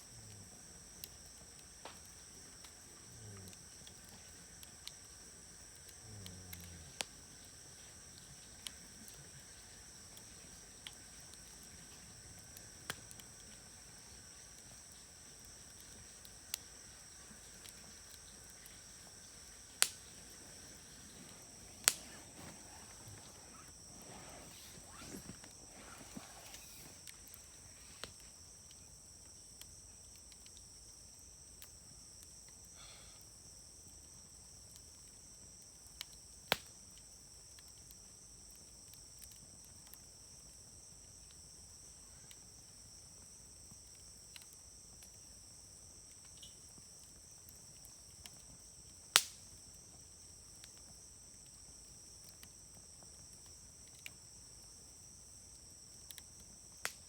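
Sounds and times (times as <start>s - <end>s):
insects trilling: 0.0s - 57.0s
wood fire crackling: 0.0s - 57.0s.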